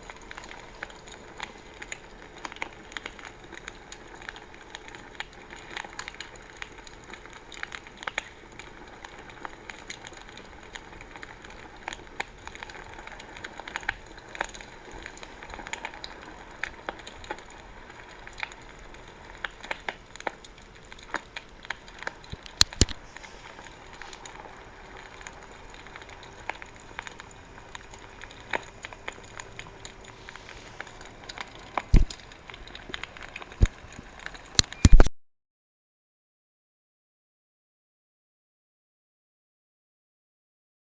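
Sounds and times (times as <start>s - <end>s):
soft steady hiss: 0.0s - 35.0s
campfire crackling: 0.0s - 35.1s.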